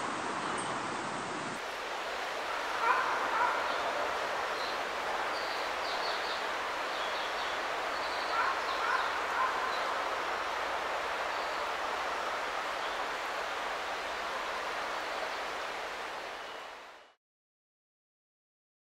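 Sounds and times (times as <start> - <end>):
river rushing over its bed: 0.0 - 17.2.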